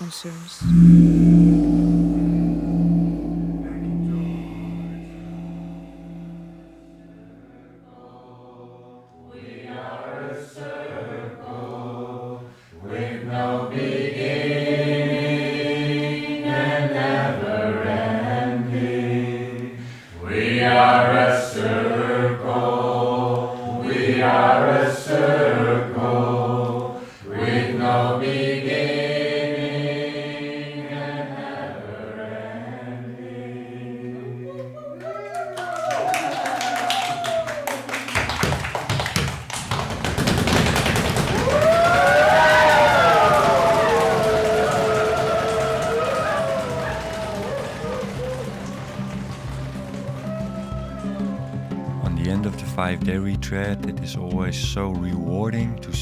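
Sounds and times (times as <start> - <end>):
voices singing a slow chant: 0.3 - 37.7, 41.4 - 52.0.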